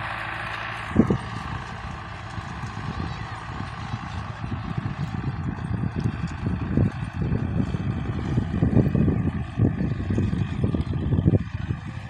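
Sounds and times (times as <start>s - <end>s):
distant tractor engine rumble: 0.0s - 12.0s.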